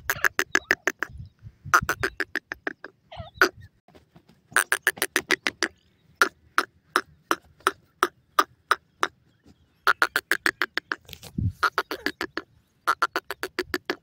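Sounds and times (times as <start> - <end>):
francolins calling: 0.0 - 3.8, 4.6 - 13.8.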